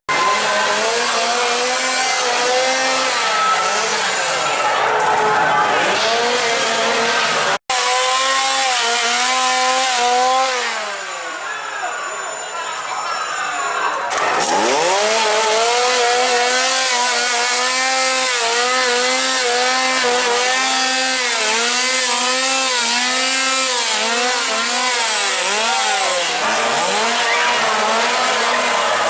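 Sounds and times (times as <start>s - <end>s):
chainsaw engine revving: 0.1s - 12.5s, 14.1s - 29.0s.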